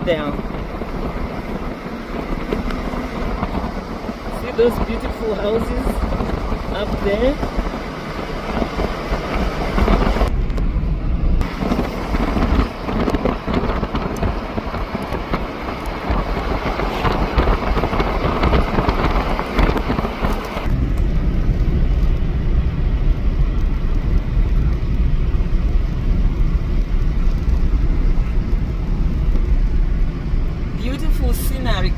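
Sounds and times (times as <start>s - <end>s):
car road and wind noise: 0.0s - 31.9s.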